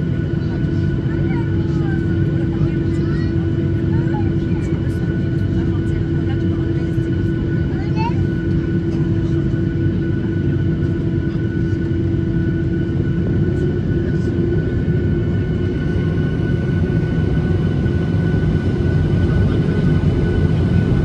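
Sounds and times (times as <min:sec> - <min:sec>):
jet engine rumble: 0:00.0 - 0:21.0
jet engine whine: 0:00.0 - 0:21.0.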